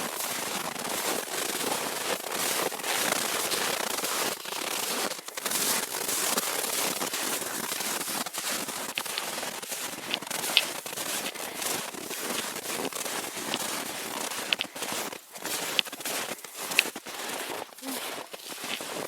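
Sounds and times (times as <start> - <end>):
footsteps crunching in snow: 0.0 - 19.0.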